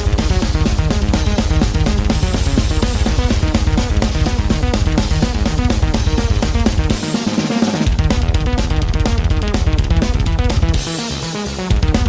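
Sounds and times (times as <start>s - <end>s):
instrumental music with drum kit: 0.0s - 12.0s.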